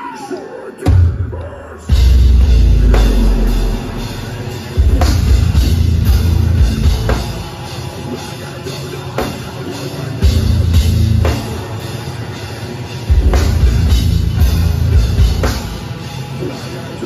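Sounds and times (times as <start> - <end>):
metal band playing live: 0.0 - 17.0.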